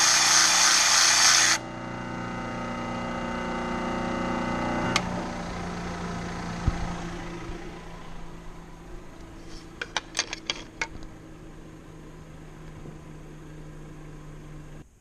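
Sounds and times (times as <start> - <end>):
machine spindle humming: 0.0 - 14.8.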